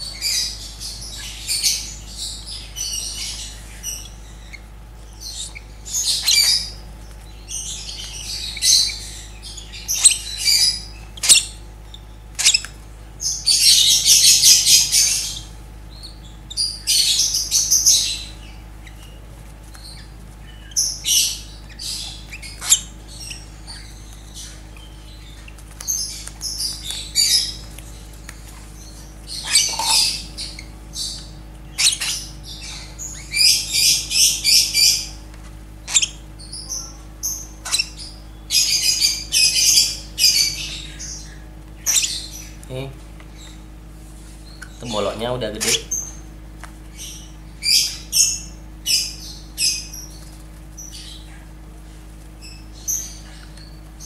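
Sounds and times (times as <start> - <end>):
bird chick begging squawks: 0.0 - 19.2, 19.8 - 35.2, 35.8 - 43.7, 44.4 - 51.5.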